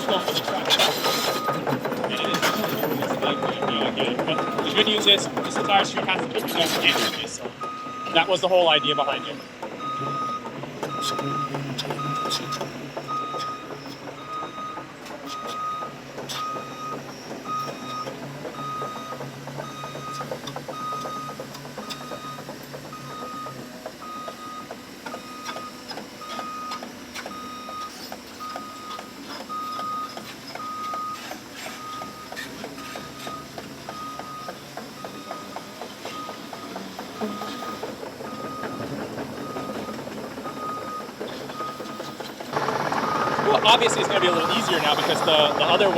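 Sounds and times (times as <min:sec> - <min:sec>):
backup alarm beeping: 0:00.0 - 0:42.2, 0:42.8 - 0:45.9
diesel engine running: 0:00.0 - 0:45.9
excavator tracks clanking: 0:00.0 - 0:45.9.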